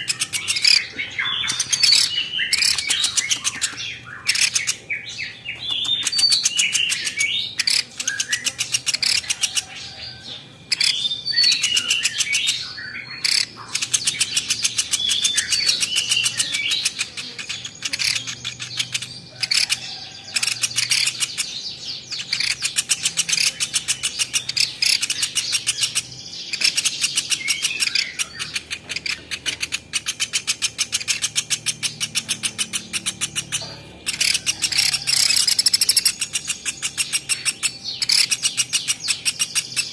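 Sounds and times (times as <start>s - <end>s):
bird trilling high chips: 0.0s - 39.9s.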